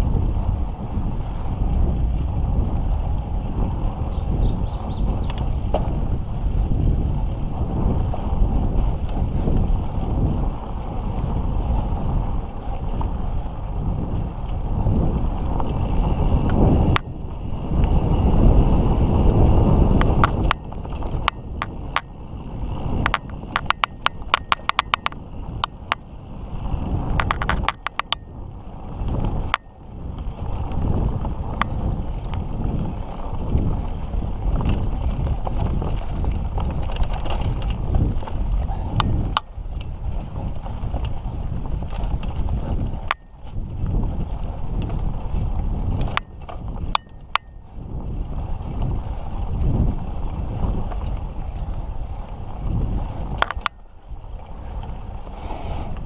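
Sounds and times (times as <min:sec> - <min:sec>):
bike clicks and rattles: 0:00.0 - 0:56.0
bike tyres rumbling on dirt: 0:00.0 - 0:56.0
wind on microphone: 0:00.0 - 0:56.0.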